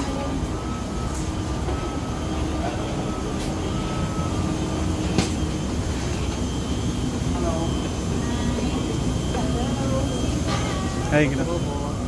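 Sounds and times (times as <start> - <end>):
airliner low rumble and hum: 0.0 - 12.0.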